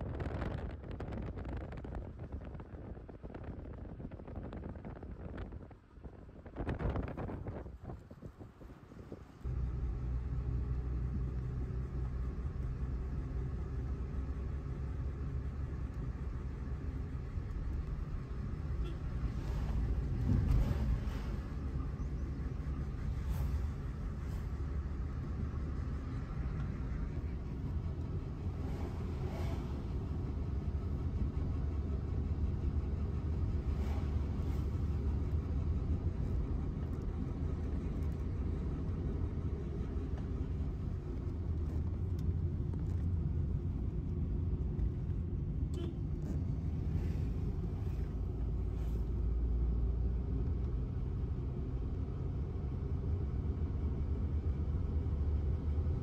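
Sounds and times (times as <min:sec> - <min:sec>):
vehicle engine and tyre noise: 0:00.0 - 0:56.0.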